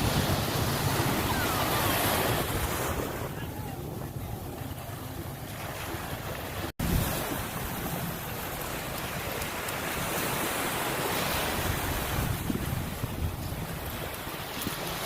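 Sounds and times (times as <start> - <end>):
waves breaking: 0.0 - 15.0
wind buffeting microphone: 0.0 - 15.0.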